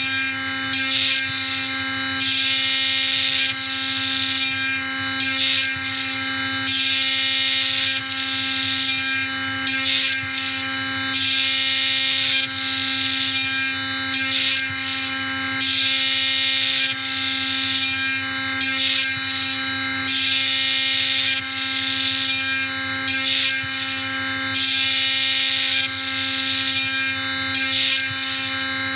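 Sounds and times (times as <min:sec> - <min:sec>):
high cutting sound: 0:00.0 - 0:28.9
milling machine spindle whine: 0:00.0 - 0:28.9.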